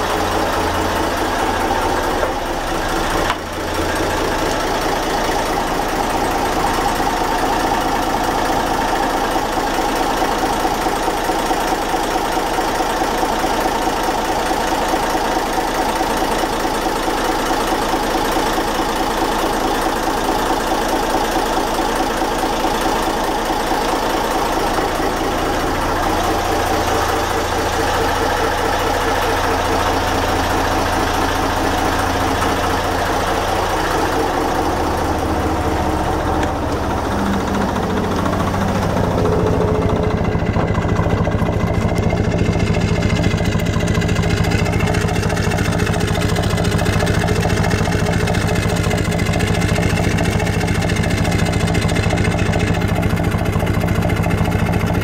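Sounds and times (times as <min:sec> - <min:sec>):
marine diesel engine running: 0:00.0 - 0:55.0.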